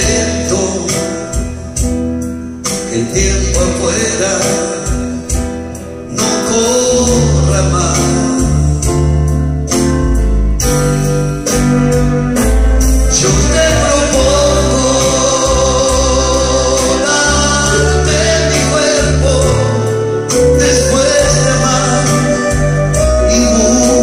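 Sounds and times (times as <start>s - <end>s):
man singing a ballad: 0.0s - 9.8s, 13.0s - 24.0s
instrumental accompaniment: 0.0s - 24.0s.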